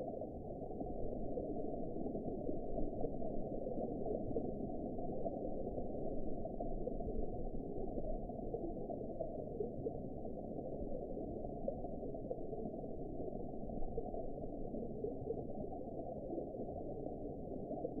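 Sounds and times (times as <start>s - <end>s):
muffled underwater rush: 0.0s - 18.0s.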